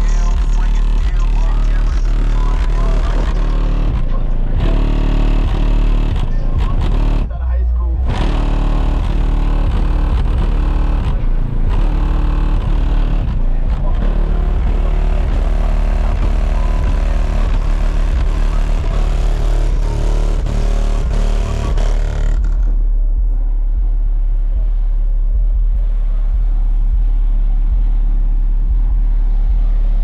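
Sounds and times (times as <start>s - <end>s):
loud rap music with deep bass: 0.0s - 30.0s.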